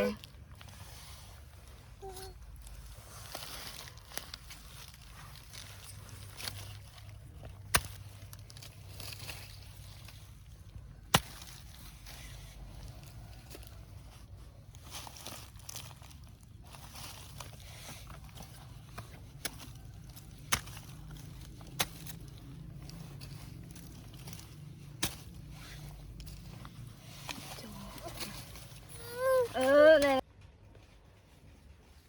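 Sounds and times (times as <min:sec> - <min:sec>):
faint rustling movement: 0:00.0 - 0:32.0.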